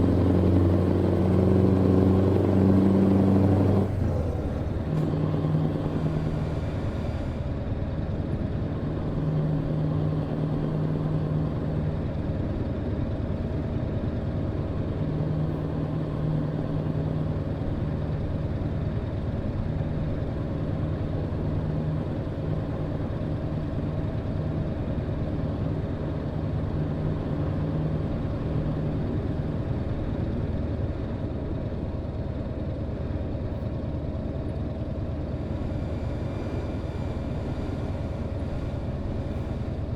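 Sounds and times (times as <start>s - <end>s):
road noise: 0.0s - 39.9s
truck engine: 0.0s - 39.9s.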